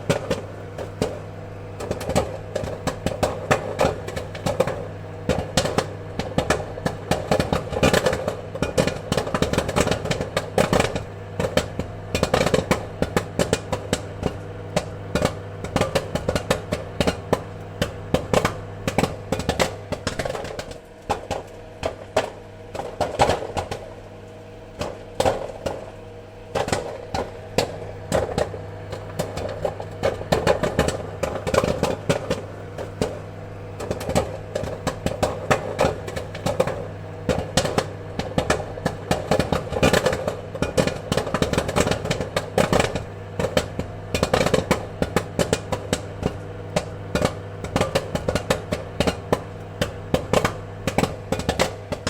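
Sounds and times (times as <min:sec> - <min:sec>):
popcorn popping: 0:00.0 - 0:52.0
steady hum: 0:00.0 - 0:52.0.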